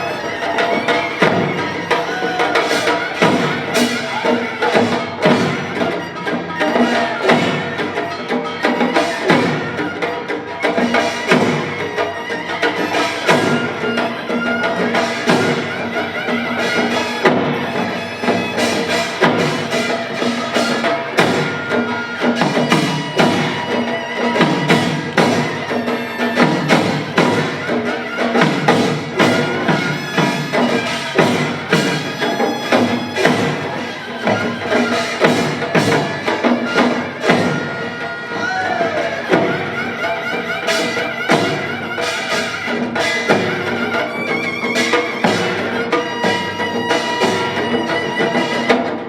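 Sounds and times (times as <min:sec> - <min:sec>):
drums and small gongs: 0:00.0 - 0:49.0.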